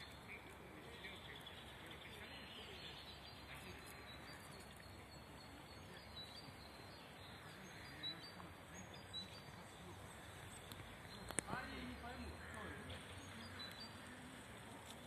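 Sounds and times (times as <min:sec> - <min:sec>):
distant small birds chirping: 0:00.0 - 0:15.0.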